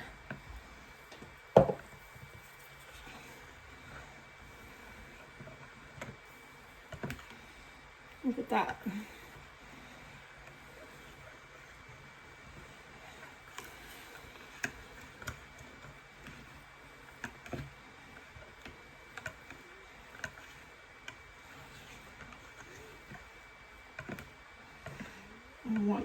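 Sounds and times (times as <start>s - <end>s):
whisk stirring thick batter: 1.8s - 26.0s.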